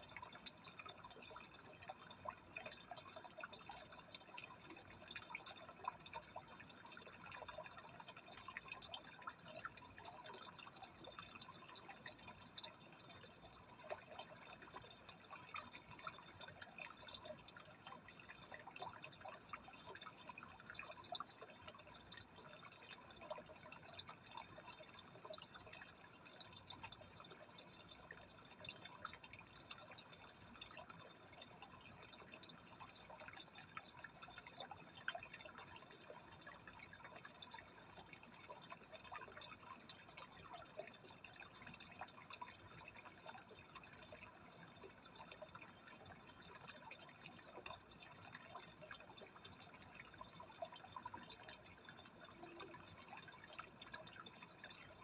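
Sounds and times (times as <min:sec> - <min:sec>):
aquarium water trickling and bubbling: 0:00.0 - 0:55.0.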